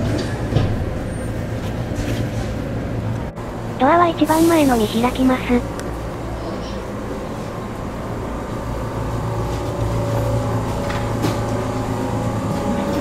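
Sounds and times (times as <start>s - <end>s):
train electrical equipment hum: 0.0s - 13.0s.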